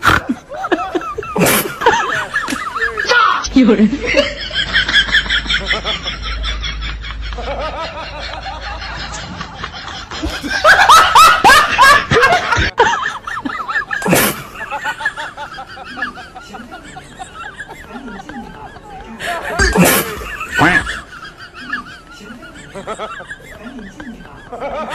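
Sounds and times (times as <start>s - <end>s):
snickering and chuckling: 0.0s - 3.1s, 3.8s - 24.9s.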